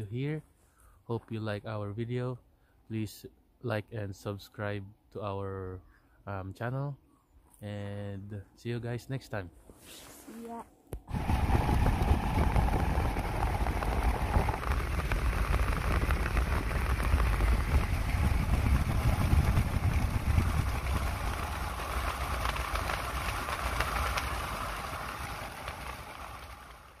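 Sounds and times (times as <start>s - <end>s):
low rumble with hiss: 0.0s - 27.0s.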